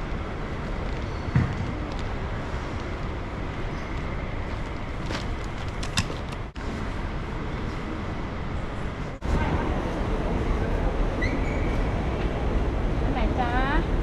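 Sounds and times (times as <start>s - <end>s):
moving vehicle noise: 0.0s - 14.0s.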